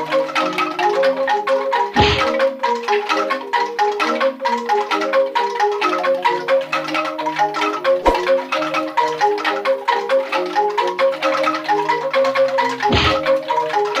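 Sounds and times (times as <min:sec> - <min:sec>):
bamboo angklung melody: 0:00.0 - 0:14.0.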